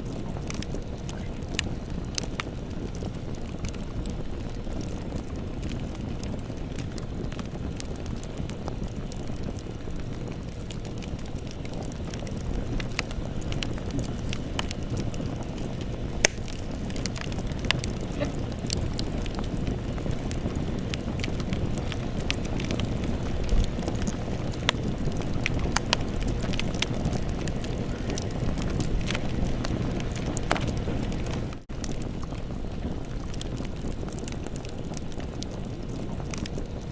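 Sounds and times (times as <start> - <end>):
campfire burning: 0.0 - 36.9
crackles and pops of burning wood: 0.0 - 36.9.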